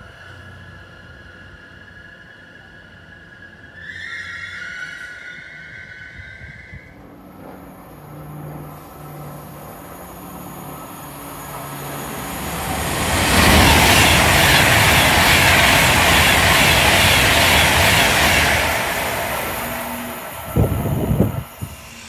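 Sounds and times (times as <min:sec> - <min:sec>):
electric train passing at speed: 0:00.0 - 0:22.0.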